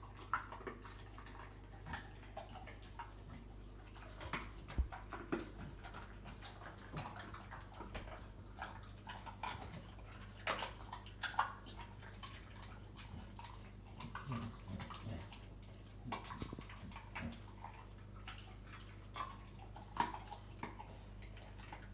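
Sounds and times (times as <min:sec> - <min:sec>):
dog chewing bones: 0:00.0 - 0:21.9.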